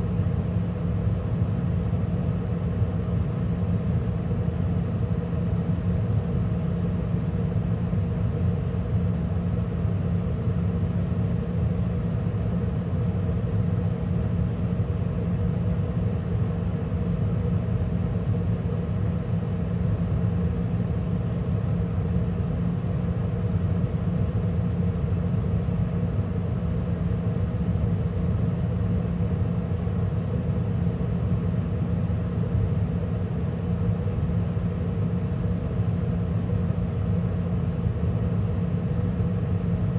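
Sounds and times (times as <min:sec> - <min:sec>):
gas furnace running: 0:00.0 - 0:39.9.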